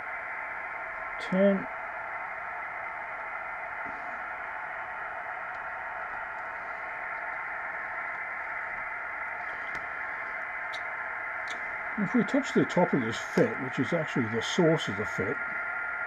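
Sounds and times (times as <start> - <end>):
radio receiver hiss: 0.0 - 16.0.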